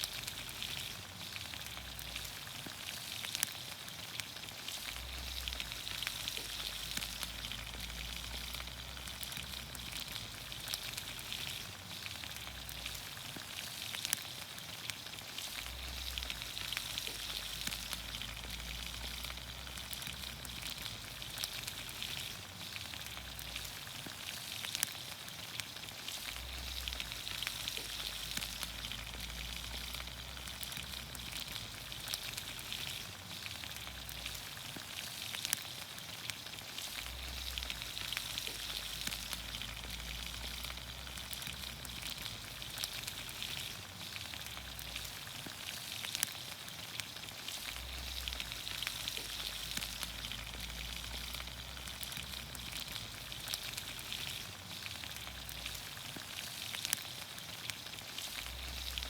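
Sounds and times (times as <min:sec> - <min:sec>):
small pops and crackles: 0:00.0 - 0:59.0
vegetables sizzling in a pan: 0:00.0 - 0:59.0.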